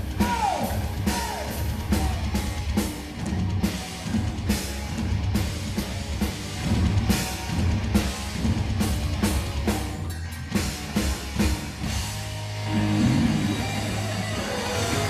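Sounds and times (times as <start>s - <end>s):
live heavy metal band playing: 0.0s - 15.0s.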